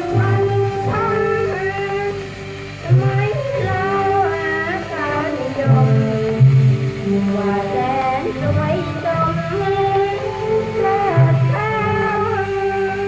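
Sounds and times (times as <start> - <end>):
old band song on a record: 0.0 - 13.0.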